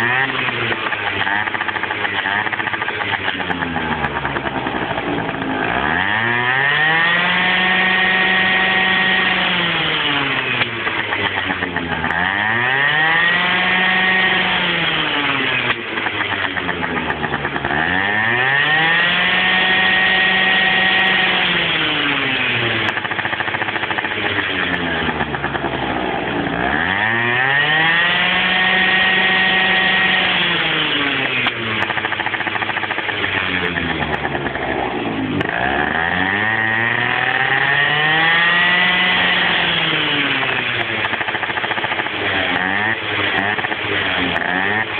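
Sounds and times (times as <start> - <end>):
scooter engine revving: 0.0 - 44.9.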